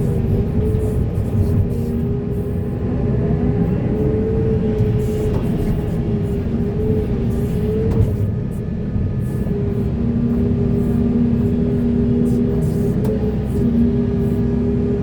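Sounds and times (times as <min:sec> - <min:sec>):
diesel engine rumble: 0:00.0 - 0:15.0
lower machinery whine: 0:00.0 - 0:15.0
machinery whine: 0:02.1 - 0:15.0.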